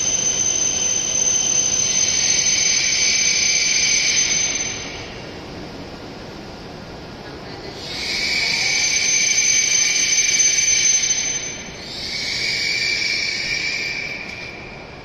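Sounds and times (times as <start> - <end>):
train air hissing with whistle: 0.0 - 5.3, 7.7 - 15.0.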